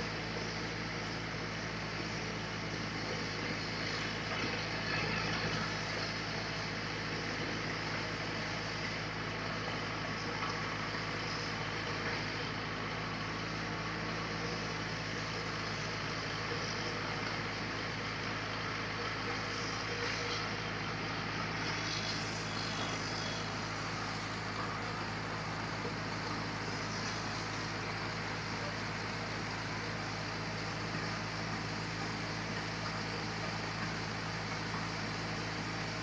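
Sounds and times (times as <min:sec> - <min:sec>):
sawmill machinery hum: 0:00.0 - 0:36.0.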